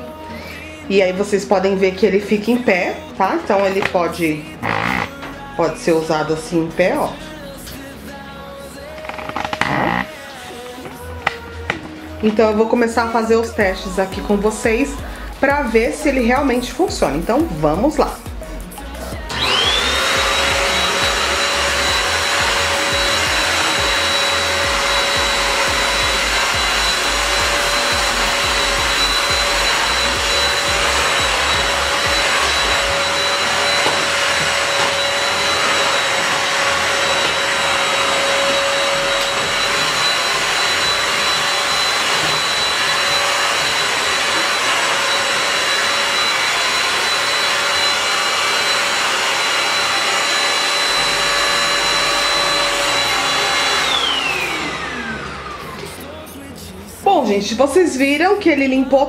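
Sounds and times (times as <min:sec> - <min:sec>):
vacuum cleaner running with high whine: 0:00.0 - 0:07.2, 0:09.0 - 0:18.1, 0:19.2 - 0:58.4.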